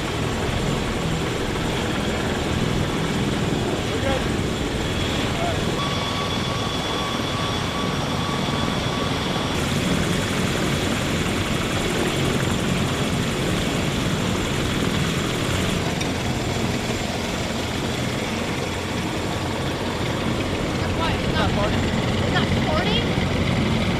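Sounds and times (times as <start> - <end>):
helicopter in flight: 0.0 - 23.9.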